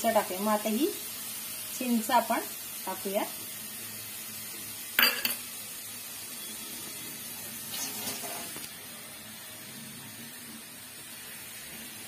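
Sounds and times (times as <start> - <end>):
liquid sizzling in a frying pan: 0.0 - 12.0.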